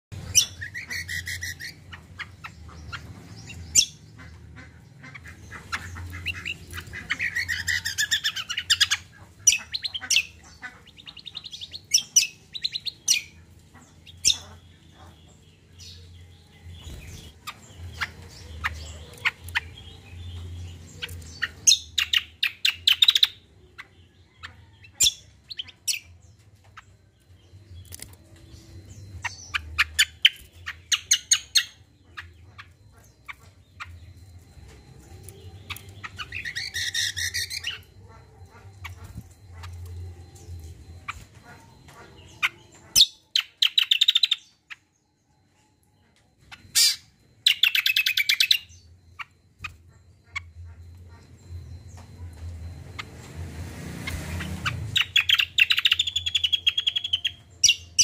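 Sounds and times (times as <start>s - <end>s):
songbird singing: 0.1s - 58.0s.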